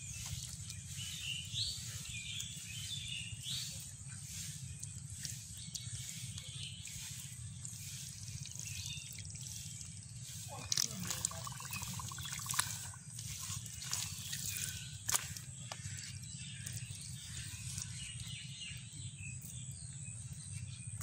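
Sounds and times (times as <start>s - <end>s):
steady low background hum: 0.0s - 21.0s
high-pitched chirping calls: 0.2s - 19.6s.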